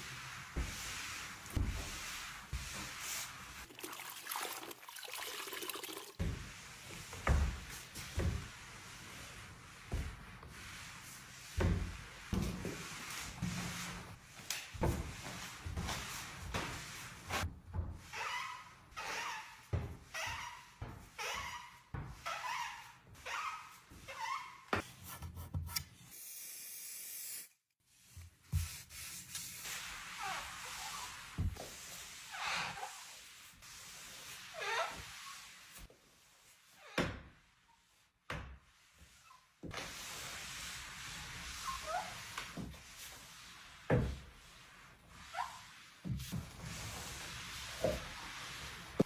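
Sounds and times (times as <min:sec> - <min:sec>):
rubbing and rustling: 0:00.0 - 0:03.7, 0:06.0 - 0:25.6, 0:27.9 - 0:49.0.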